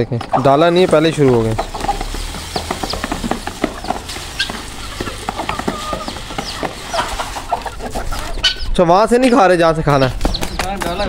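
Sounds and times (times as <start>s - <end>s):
chickens clucking and chirping: 0.0s - 11.0s
chickens pecking clicks: 0.1s - 8.6s, 10.1s - 11.0s.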